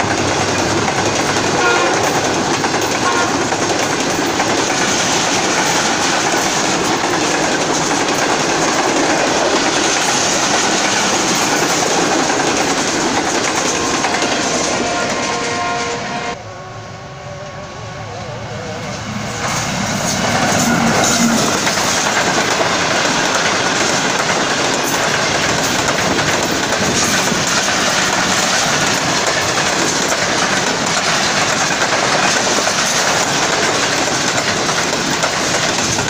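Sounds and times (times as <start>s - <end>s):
train wheels clattering over rail joints: 0.0s - 15.6s, 19.8s - 36.0s
passenger train passing at speed: 0.0s - 36.0s.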